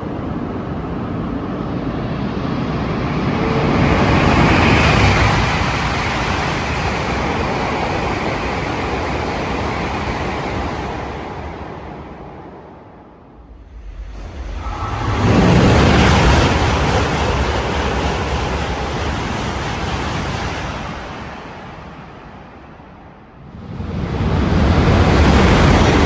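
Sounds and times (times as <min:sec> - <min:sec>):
train passing rushing noise: 0:00.0 - 0:26.0.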